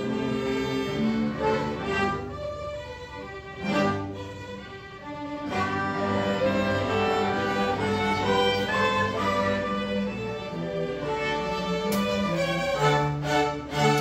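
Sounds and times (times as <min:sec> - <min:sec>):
string ensemble playing: 0:00.0 - 0:14.0.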